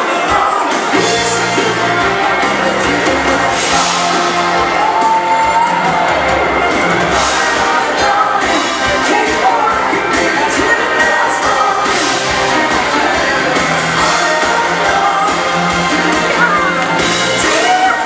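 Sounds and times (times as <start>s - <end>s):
live dance band playing: 0.0s - 18.0s
person singing: 0.0s - 18.0s.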